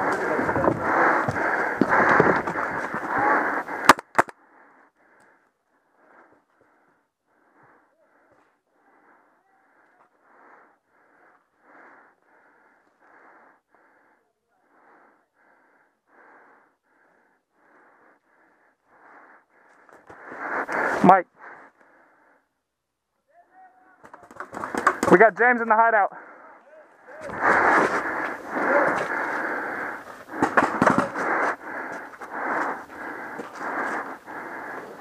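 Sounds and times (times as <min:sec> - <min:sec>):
quick wheezing breaths: 0:00.0 - 0:22.6, 0:27.2 - 0:35.0.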